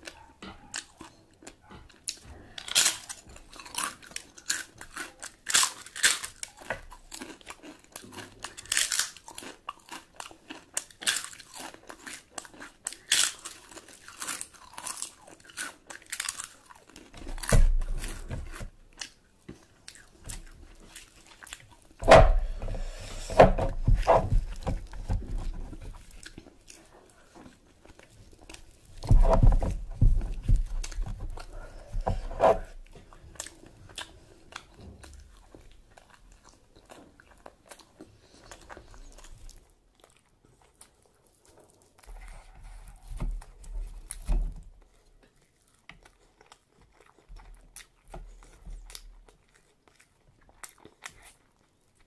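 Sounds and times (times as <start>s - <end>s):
person chewing and crunching: 0.0s - 52.0s.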